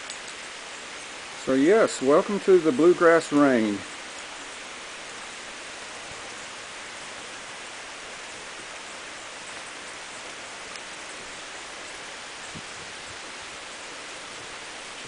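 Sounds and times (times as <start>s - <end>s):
gentle rain falling: 0.0s - 15.0s.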